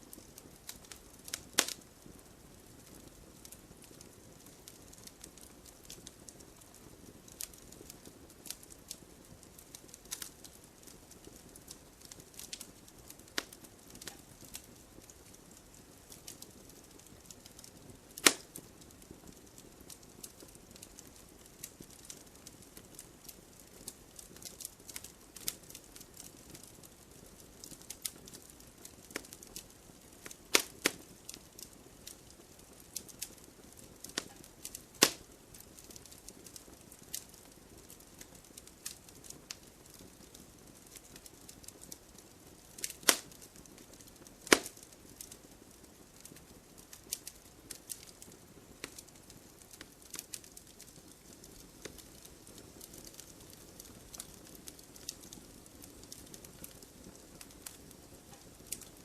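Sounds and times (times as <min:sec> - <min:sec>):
soft steady hiss: 0:00.0 - 0:59.0
wood fire crackling: 0:00.0 - 0:59.0
sharp pops of fire: 0:00.1 - 0:59.0.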